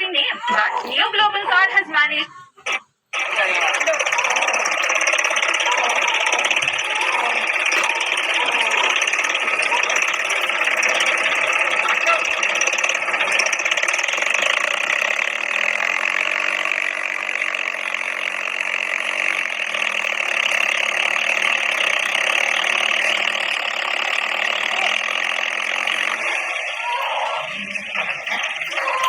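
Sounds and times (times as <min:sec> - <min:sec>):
tractor diesel engine clattering: 0:00.0 - 0:29.0.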